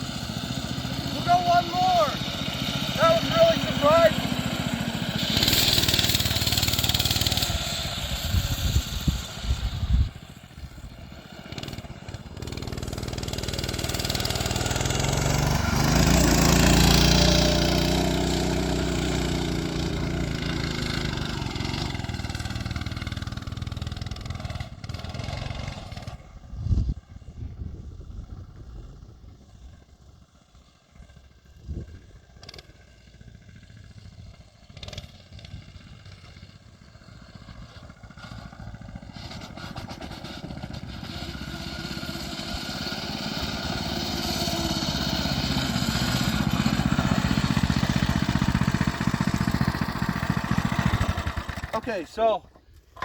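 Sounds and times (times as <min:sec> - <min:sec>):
mini bike engine under load: 0:00.0 - 0:53.0.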